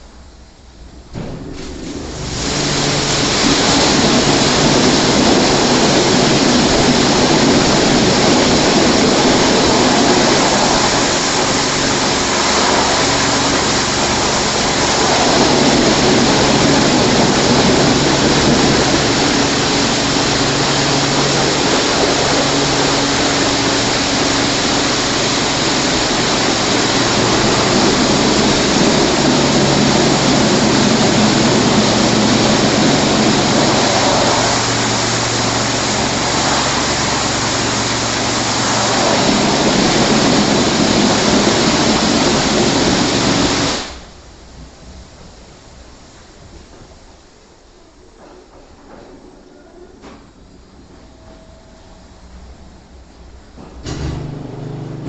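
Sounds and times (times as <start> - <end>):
machinery humming: 0.0 - 44.4, 47.4 - 55.0
car wash water spray hiss: 0.0 - 44.5.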